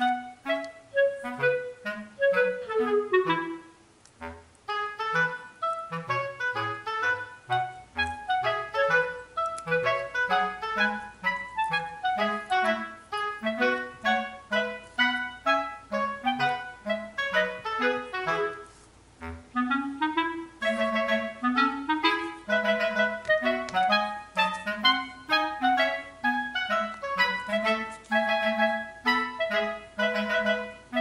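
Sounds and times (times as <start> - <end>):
light tune of detached notes: 0.0 - 31.0.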